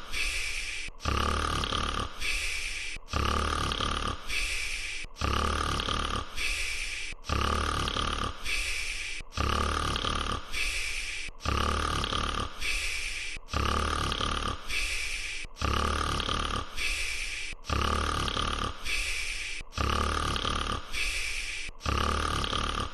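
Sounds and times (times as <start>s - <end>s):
cartoon character snoring: 0.0s - 22.9s.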